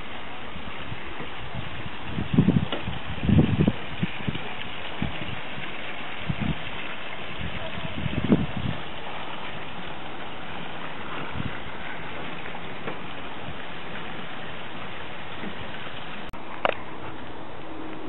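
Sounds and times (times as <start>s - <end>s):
water splashing into pond: 0.0s - 18.0s.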